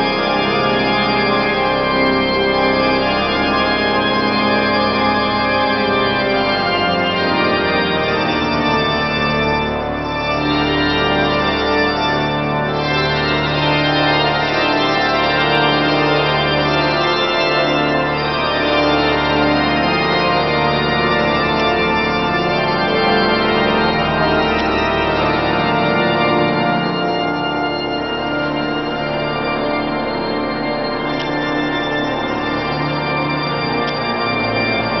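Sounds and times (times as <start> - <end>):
pipe organ chords: 0.0 - 35.0.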